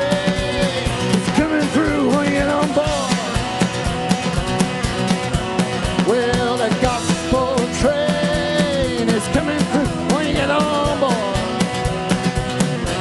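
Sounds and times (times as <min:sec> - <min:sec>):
live band playing rock song: 0:00.0 - 0:13.0
pitch-bending lead melody: 0:00.0 - 0:13.0
steady drum beat: 0:00.0 - 0:13.0.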